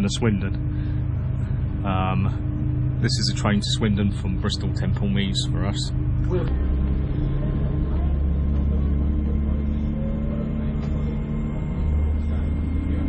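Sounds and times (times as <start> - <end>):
faint whining tones: 0.0 - 13.0
train carriage low rumble: 0.0 - 13.0.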